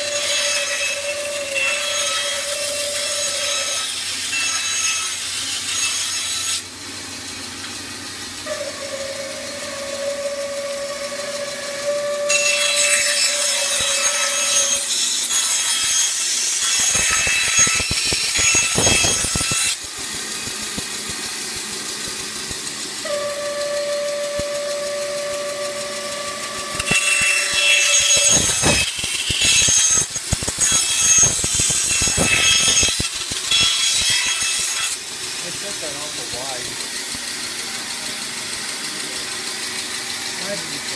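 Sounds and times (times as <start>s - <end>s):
bandsaw cutting wood: 0.0s - 40.9s.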